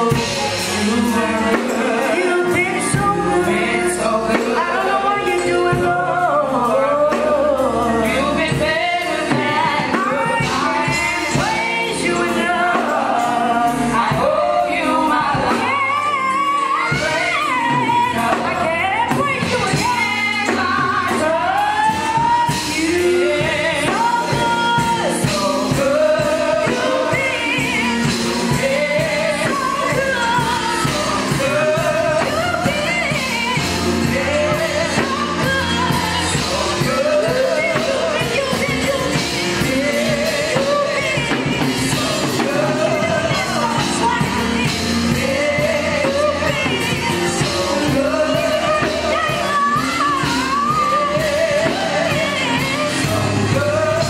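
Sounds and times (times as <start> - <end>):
accompaniment with steady beat: 0.0 - 54.0
backing singers: 0.0 - 54.0
woman singing gospel into microphone: 0.0 - 54.0.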